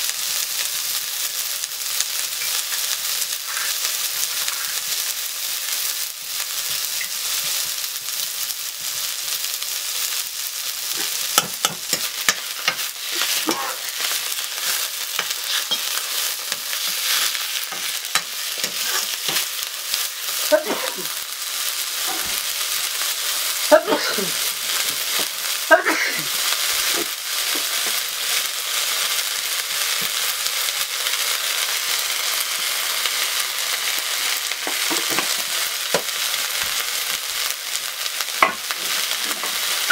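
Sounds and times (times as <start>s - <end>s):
greens sizzling in a wok: 0.0s - 39.9s.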